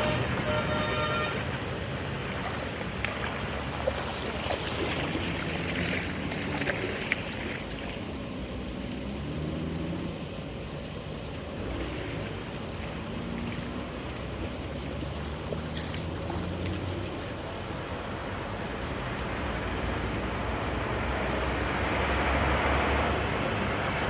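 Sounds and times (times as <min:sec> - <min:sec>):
water rushing and splashing: 0:00.0 - 0:24.0.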